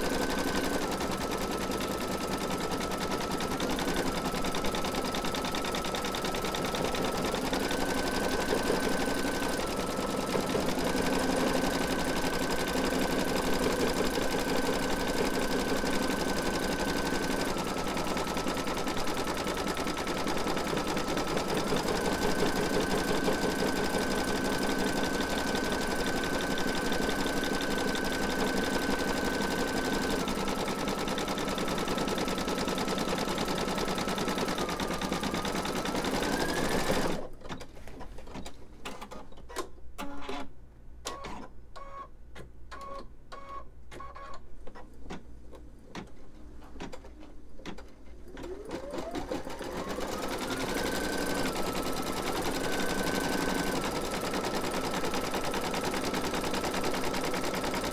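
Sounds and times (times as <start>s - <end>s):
embroidery machine stitching: 0.0s - 37.3s, 47.7s - 57.9s.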